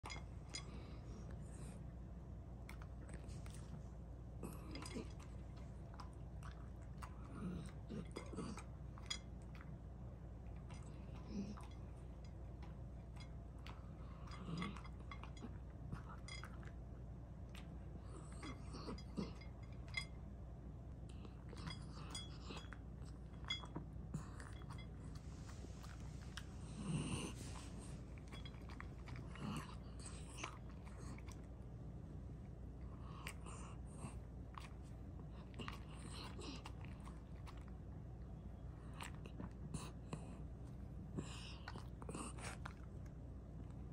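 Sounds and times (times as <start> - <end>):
dog eating from metal bowl: 0.0 - 1.9, 2.6 - 20.4, 21.0 - 43.9.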